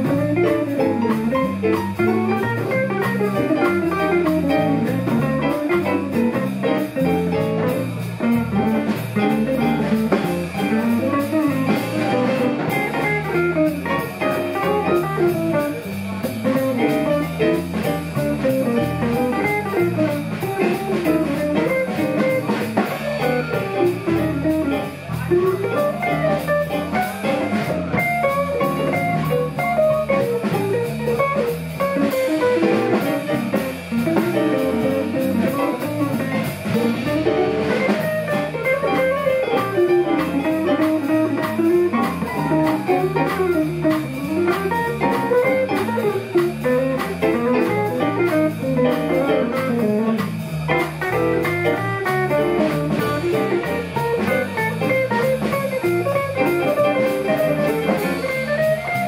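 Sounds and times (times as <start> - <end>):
drum kit cymbals: 0.0 - 59.0
walking electric bass: 0.0 - 59.0.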